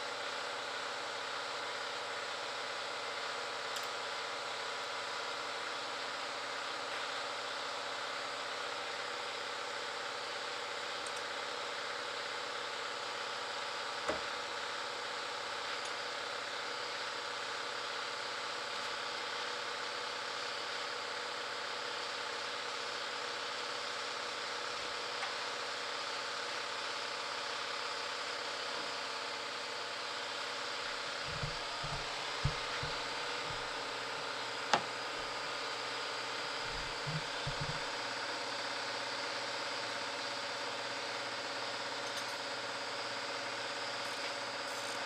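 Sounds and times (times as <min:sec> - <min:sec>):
shop background hum and hiss: 0:00.0 - 0:45.0.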